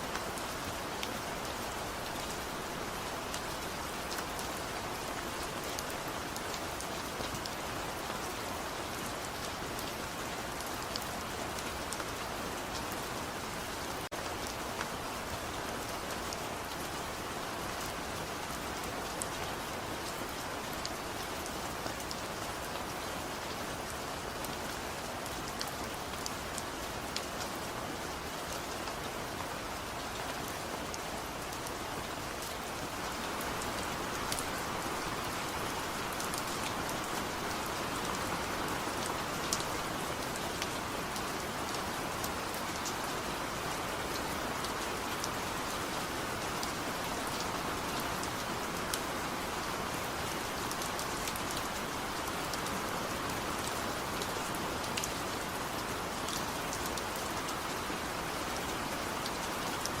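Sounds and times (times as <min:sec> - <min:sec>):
gentle rain hissing: 0:00.0 - 1:00.0.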